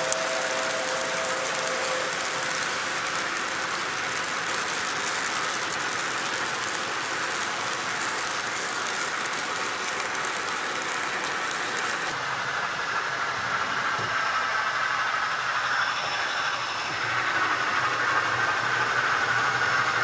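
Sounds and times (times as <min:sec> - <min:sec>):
model train wheels on rail: 0:00.0 - 0:20.0.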